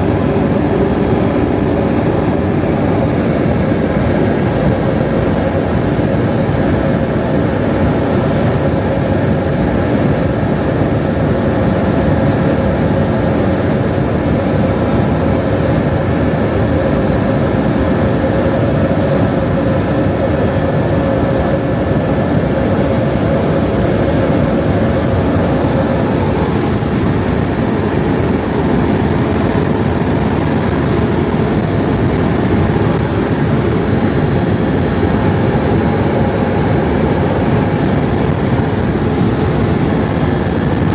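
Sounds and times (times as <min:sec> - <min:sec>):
helicopter engine and rotor drone: 0:00.0 - 0:40.9
helicopter whine: 0:00.0 - 0:40.9.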